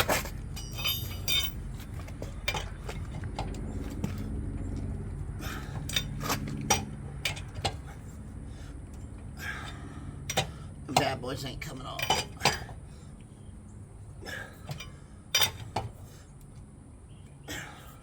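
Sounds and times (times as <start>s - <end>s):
low hum: 0.0s - 15.7s.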